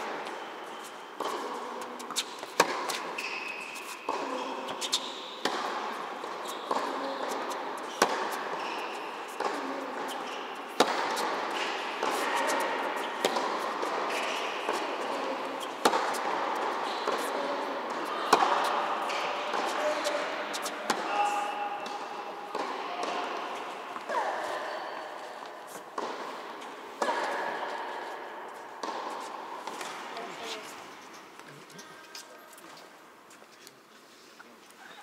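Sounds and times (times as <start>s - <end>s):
tennis balls bouncing: 0.0s - 21.1s, 21.8s - 30.7s
tennis balls struck by rackets: 0.0s - 30.7s.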